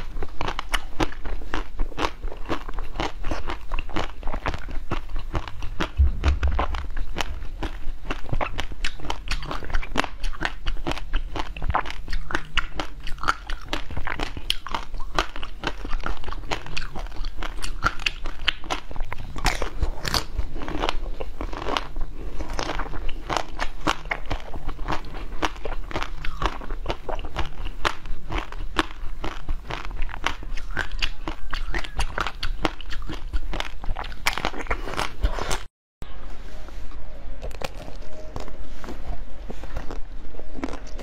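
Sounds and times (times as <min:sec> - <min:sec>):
biting and chewing crunches: 0:00.0 - 0:35.7, 0:39.6 - 0:41.0.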